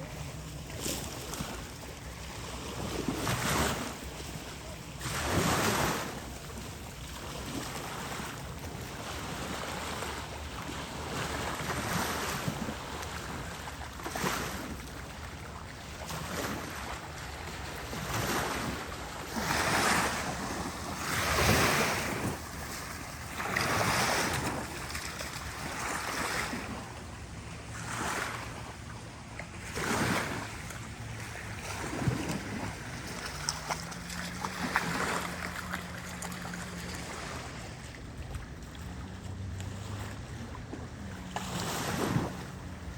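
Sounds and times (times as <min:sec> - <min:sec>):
small waves washing onto beach: 0:00.0 - 0:42.9.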